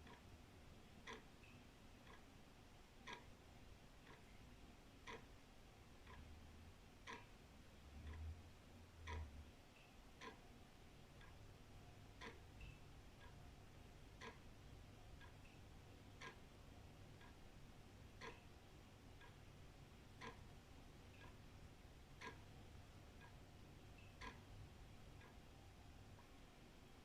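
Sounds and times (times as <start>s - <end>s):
wall clock ticking: 0.0s - 27.0s.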